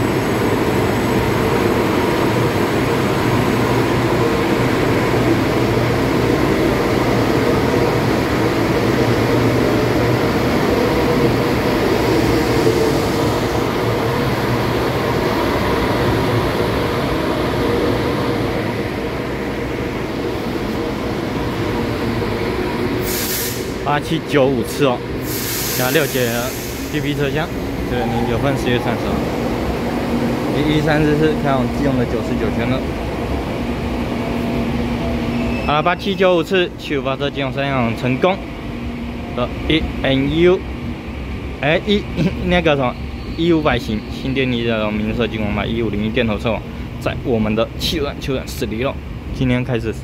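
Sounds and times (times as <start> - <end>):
train rumbling past on rails: 0.0 - 50.0.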